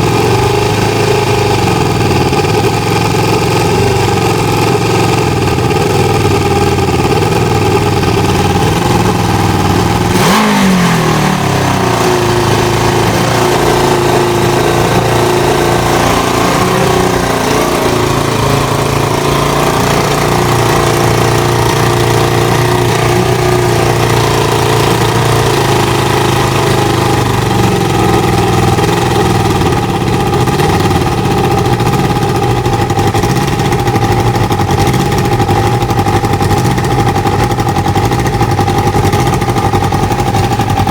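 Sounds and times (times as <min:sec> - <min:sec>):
engine revving: 0:00.0 - 0:40.9
motorcycle engine idling: 0:00.0 - 0:40.9.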